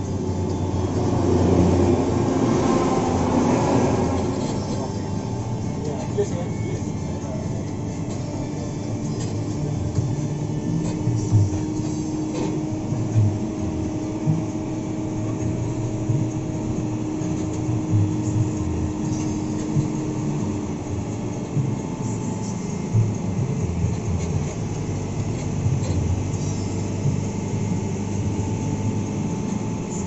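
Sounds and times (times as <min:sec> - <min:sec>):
diesel engine running: 0:00.0 - 0:30.0
road noise: 0:00.0 - 0:30.0.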